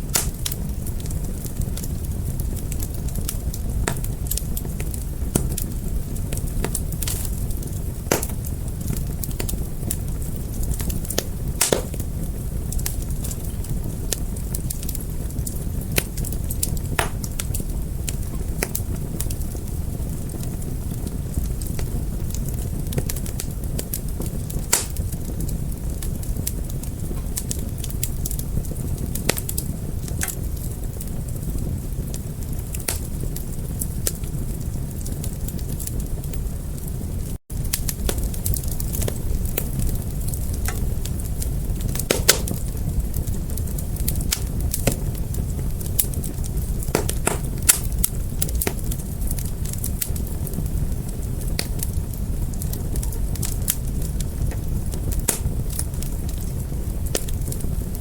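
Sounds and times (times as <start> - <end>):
low rumble of flames: 0.0 - 58.0
wood fire pops and snaps: 0.0 - 58.0.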